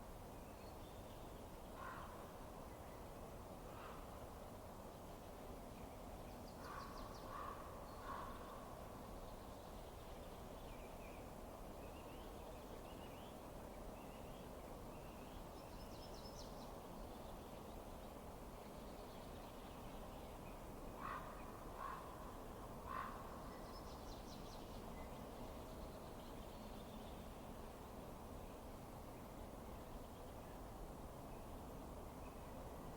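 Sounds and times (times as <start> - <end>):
faint background hiss: 0.0 - 32.9.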